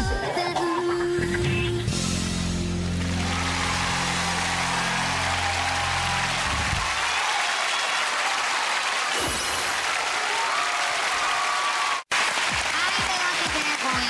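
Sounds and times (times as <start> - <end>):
audience applauding: 2.7 - 14.0.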